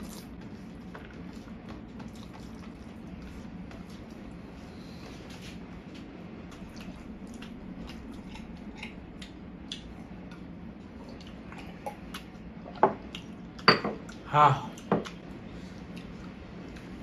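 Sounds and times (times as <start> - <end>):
chewing and mouth clicks: 0.0 - 4.3, 5.3 - 17.0.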